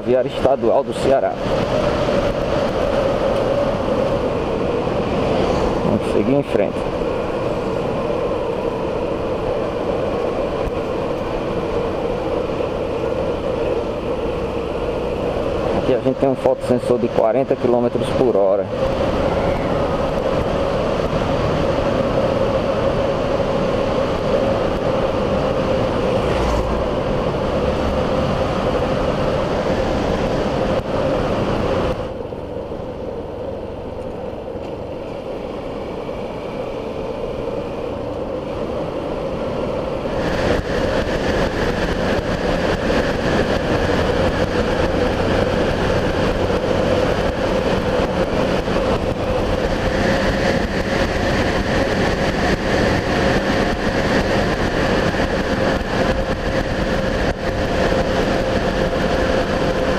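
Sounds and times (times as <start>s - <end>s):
vehicle road and wind noise: 0.0s - 59.9s.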